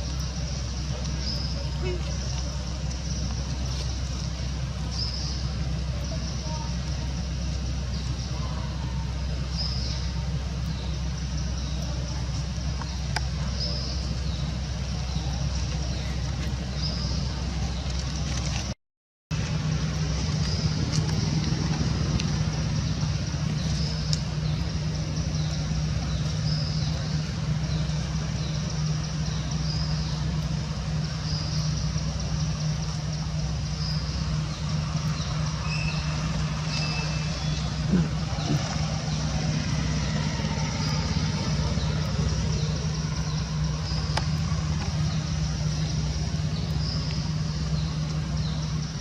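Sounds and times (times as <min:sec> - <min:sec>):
engine idling hum: 0:00.0 - 0:49.0.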